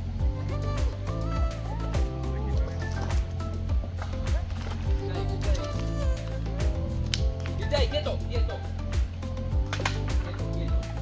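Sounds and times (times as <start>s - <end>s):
gliding melody line: 0.0s - 11.0s
music with steady beat: 0.0s - 11.0s.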